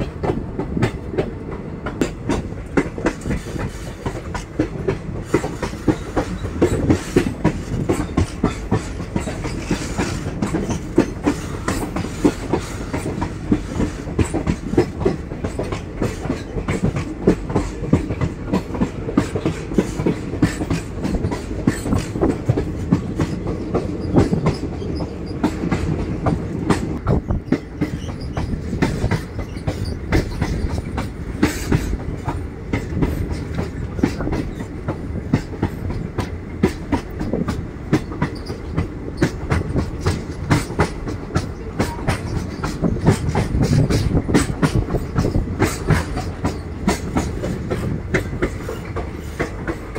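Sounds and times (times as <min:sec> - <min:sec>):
train carriage rumble: 0:00.0 - 0:49.9
wheels clacking over rail joints: 0:00.0 - 0:49.9.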